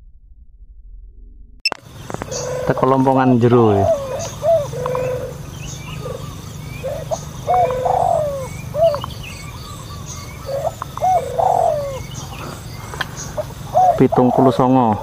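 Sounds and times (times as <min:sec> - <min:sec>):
low steady hum: 0:00.0 - 0:15.0
warbling trills: 0:01.8 - 0:15.0
wild birds calling: 0:01.8 - 0:15.0.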